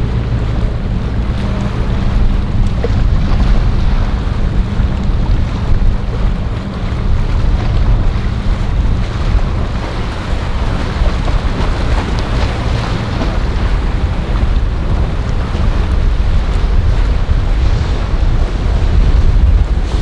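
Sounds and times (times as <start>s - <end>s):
boat engines running: 0.0s - 20.0s
water rushing: 0.0s - 20.0s
wind buffeting microphone: 0.0s - 20.0s.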